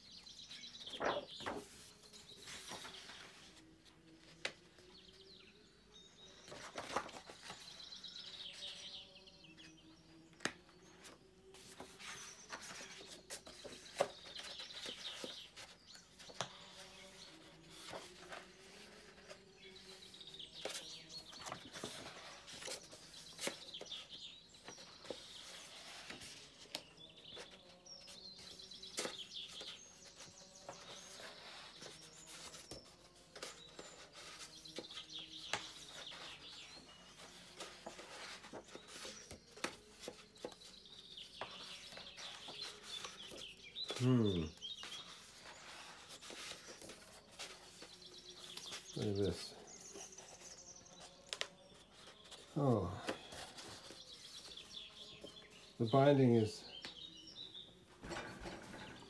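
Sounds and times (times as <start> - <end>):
bird singing: 0.0 - 59.0
book pages turning: 0.3 - 5.2, 6.3 - 8.9, 9.6 - 55.7.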